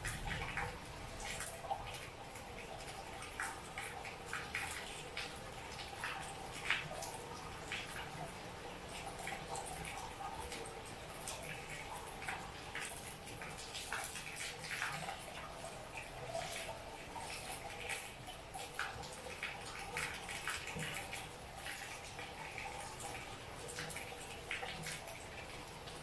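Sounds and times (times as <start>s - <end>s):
drips and splashes: 0.0s - 26.0s
rain falling: 0.0s - 26.0s.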